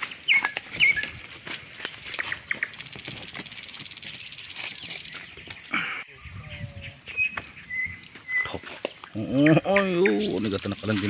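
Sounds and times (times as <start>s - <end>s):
sharp bird chirps: 0.0s - 3.0s, 4.2s - 11.0s
leaves and twigs rustling: 0.0s - 6.0s, 7.0s - 9.2s, 10.1s - 11.0s.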